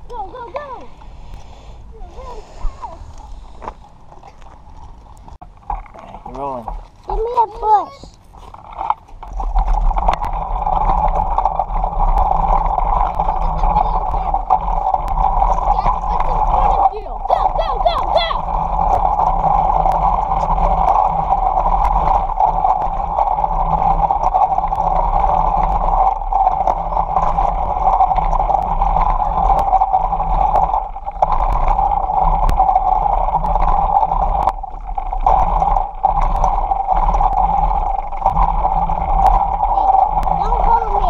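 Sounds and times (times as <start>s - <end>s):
bicycle tyres rolling on asphalt: 0.0s - 41.0s
wind: 0.0s - 41.0s.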